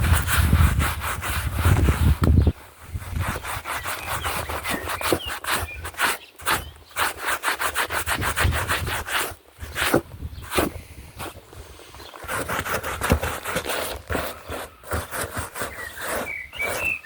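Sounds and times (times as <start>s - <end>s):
stiff brush scrubbing: 0.0s - 17.0s.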